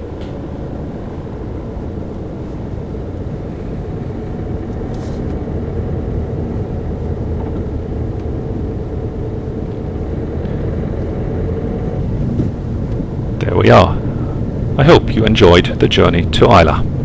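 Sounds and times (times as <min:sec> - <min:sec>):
car engine rumble: 0:00.0 - 0:17.0
road noise inside car: 0:00.0 - 0:17.0.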